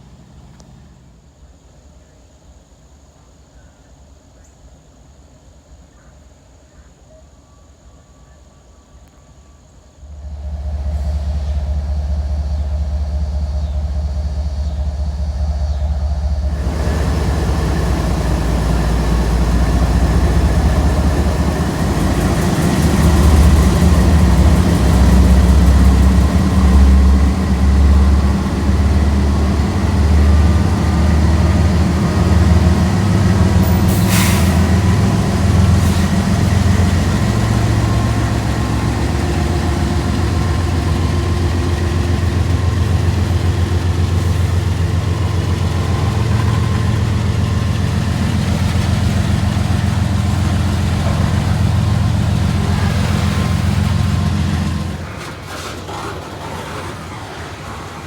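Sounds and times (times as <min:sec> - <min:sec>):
diesel locomotive engines throbbing: 0:09.9 - 0:58.0.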